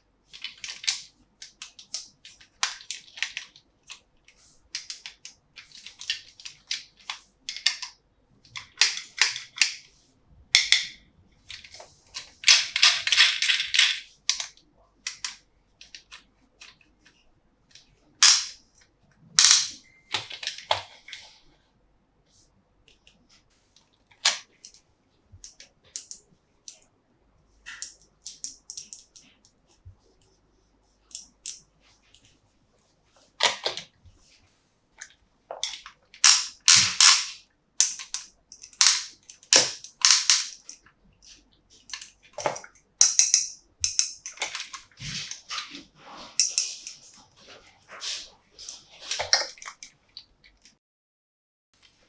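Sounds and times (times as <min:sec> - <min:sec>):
plastic parts clicking and crinkling: 0:00.3 - 0:21.5, 0:23.8 - 0:26.9, 0:27.6 - 0:30.4, 0:31.0 - 0:32.4, 0:33.2 - 0:34.2, 0:35.0 - 0:50.8.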